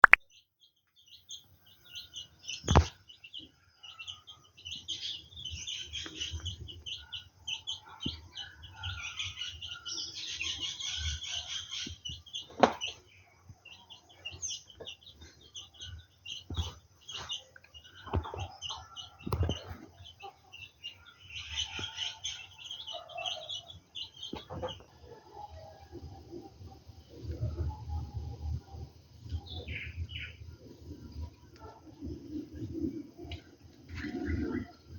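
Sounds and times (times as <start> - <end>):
birds chirping and singing: 0.3 - 34.9.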